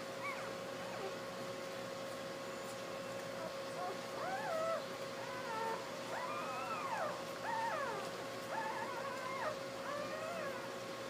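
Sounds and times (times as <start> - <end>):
puppies whining and squeaking: 0.0 - 1.2, 2.6 - 11.0
faint steady hum: 0.0 - 11.0.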